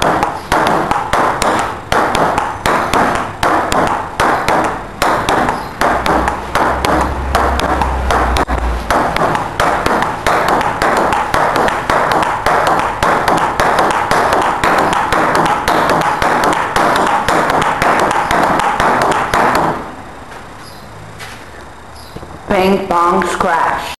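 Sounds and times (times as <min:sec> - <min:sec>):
steady background noise: 0:00.0 - 0:23.9.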